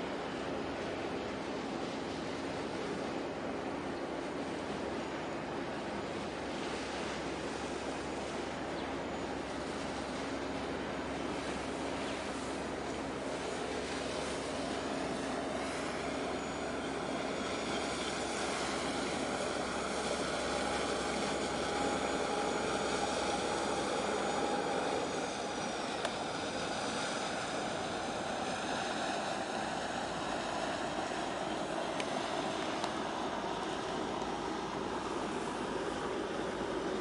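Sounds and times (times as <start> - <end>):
distant engine drone: 0.0 - 37.0.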